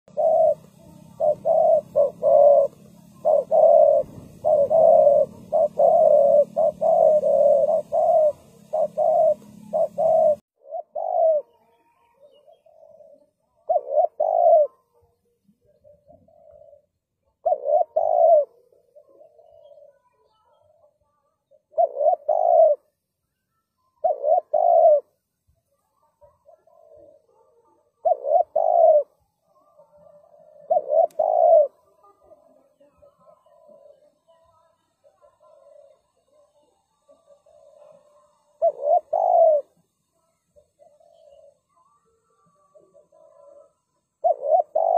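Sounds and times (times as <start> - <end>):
dove cooing: 0.1 - 15.0, 15.7 - 23.0, 23.9 - 25.2, 25.9 - 44.9.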